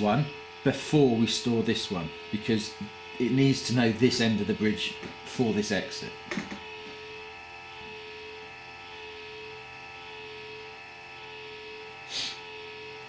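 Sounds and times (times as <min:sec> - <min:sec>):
motor whine: 0:00.0 - 0:13.0.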